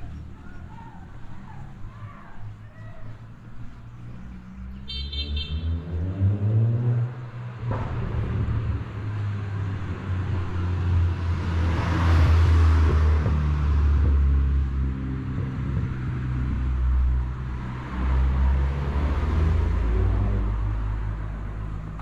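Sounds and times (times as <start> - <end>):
road noise of passing vehicle: 0.0 - 22.0.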